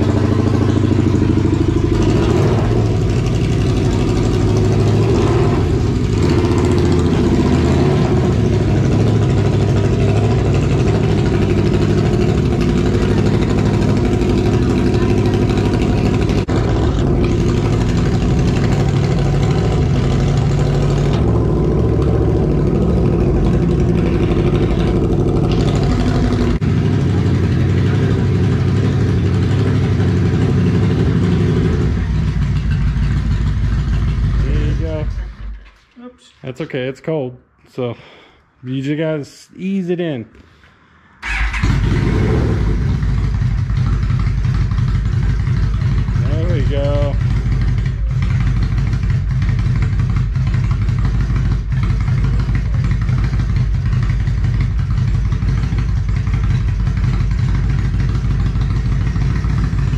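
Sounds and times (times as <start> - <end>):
motorcycle engine idling: 0.0 - 35.6, 41.2 - 59.9.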